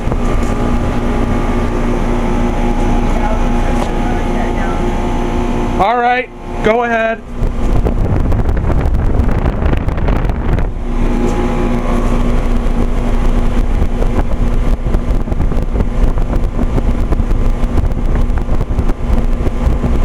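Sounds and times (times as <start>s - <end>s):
compressor humming: 0.0s - 20.0s
outdoor fan whooshing: 0.0s - 20.0s.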